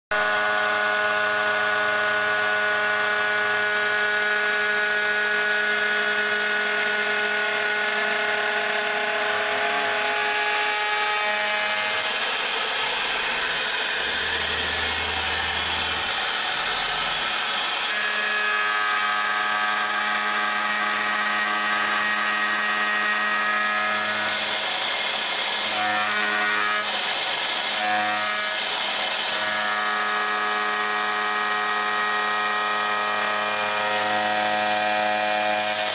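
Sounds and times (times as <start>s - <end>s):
router spindle milling metal: 0.2s - 35.9s.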